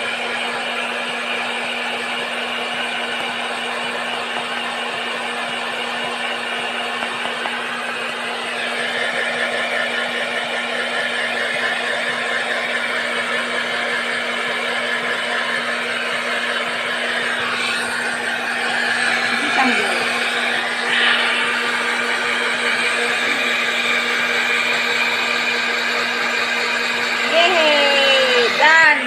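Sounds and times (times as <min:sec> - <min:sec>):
hair dryer blowing air: 0:00.0 - 0:29.0.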